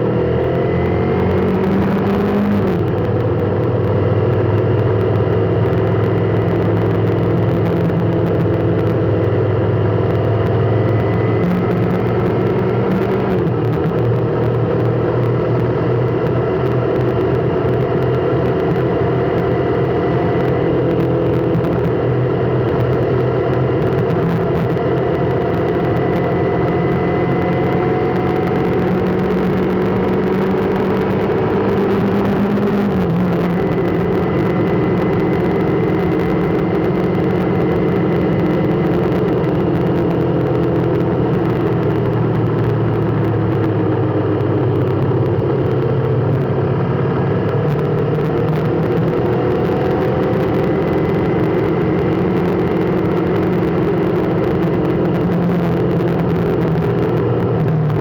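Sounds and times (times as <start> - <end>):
vehicle engine hum: 0.0 - 58.0.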